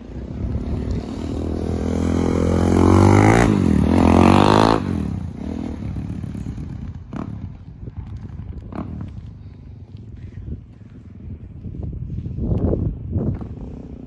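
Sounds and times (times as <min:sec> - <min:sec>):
motorcycle passing by: 0:00.0 - 0:10.2, 0:12.8 - 0:14.0.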